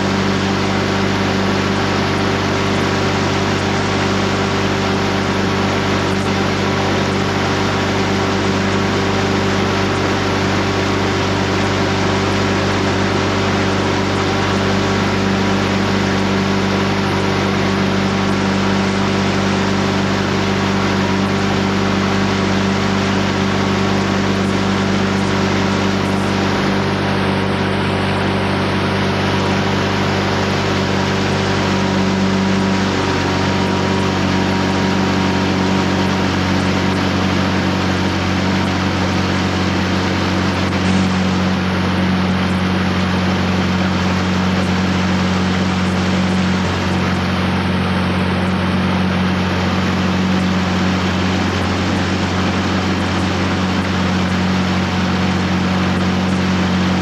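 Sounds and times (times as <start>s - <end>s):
motorboat engine humming: 0.0s - 57.0s.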